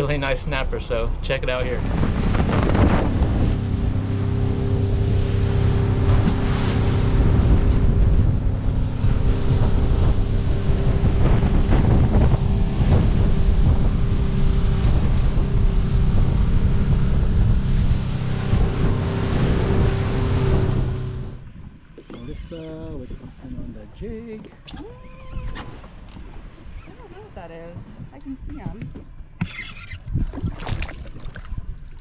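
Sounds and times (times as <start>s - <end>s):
boat engine drone: 0.0s - 32.0s
wind buffeting microphone: 0.0s - 32.0s
hull splashing through water: 1.8s - 23.6s, 24.3s - 32.0s.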